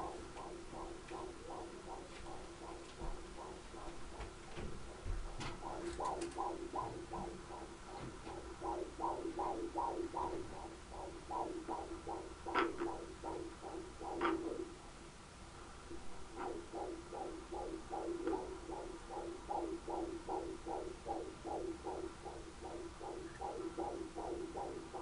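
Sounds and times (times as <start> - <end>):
fetal heartbeat whooshing pulses: 0.0 - 14.9, 15.7 - 25.0
steady hum: 0.0 - 25.0.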